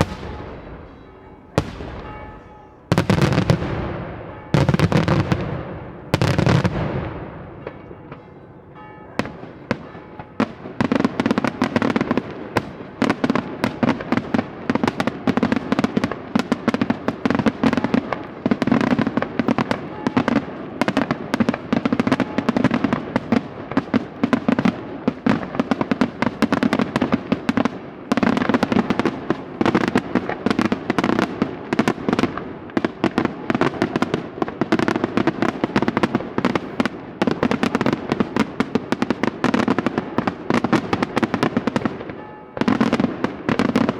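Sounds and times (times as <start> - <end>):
rapid firecracker bangs: 0.0 - 43.9.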